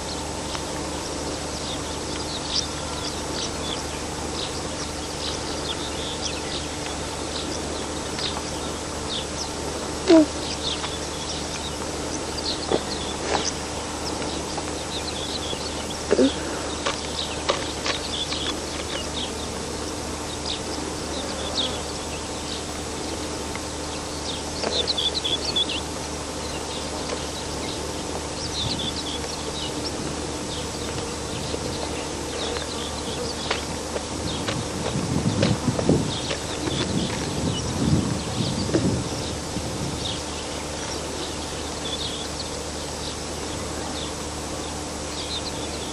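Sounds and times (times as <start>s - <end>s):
background hiss and hum: 0.0s - 45.9s
small birds chirping: 0.0s - 45.9s.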